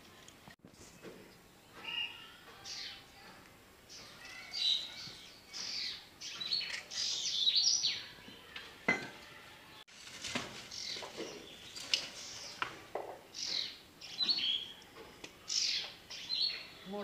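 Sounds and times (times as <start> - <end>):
small birds chirping: 0.1 - 9.9, 10.5 - 17.0.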